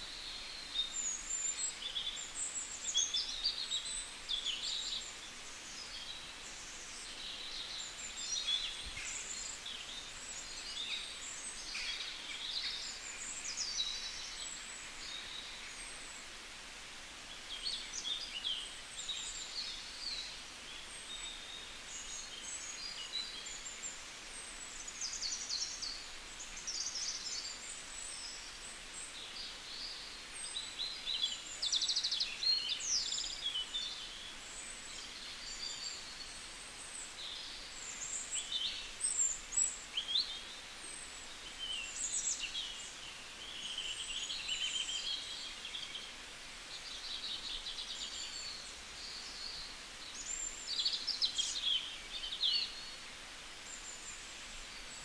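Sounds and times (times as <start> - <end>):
background hiss: 0.0 - 55.0
small birds chirping: 0.0 - 55.0.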